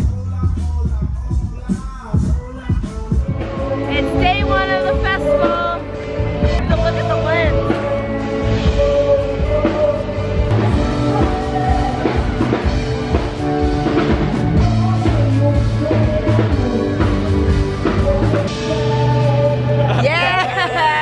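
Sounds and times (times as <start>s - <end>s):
drums: 0.0s - 21.0s.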